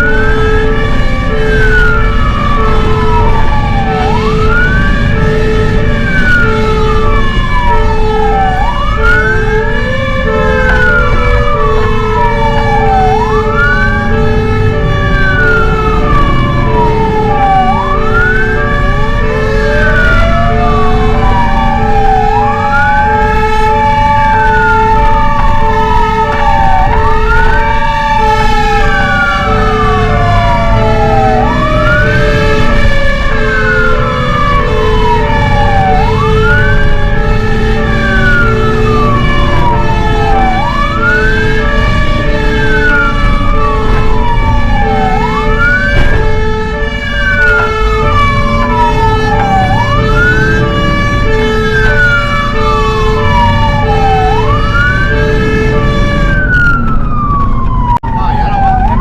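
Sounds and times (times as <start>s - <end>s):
fire engine siren wailing: 0.0s - 59.0s
pulsing siren tone: 0.0s - 59.0s.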